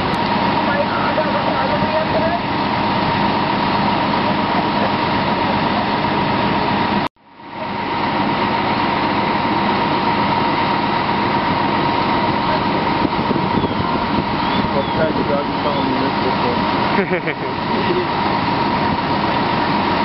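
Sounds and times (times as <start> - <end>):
fire engines running: 0.0 - 20.0
mid-pitched whine: 0.0 - 20.0.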